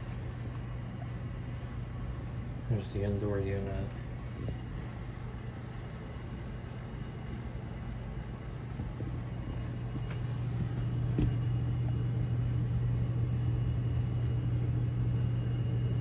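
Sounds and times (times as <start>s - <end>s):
air handler humming: 0.0s - 16.0s.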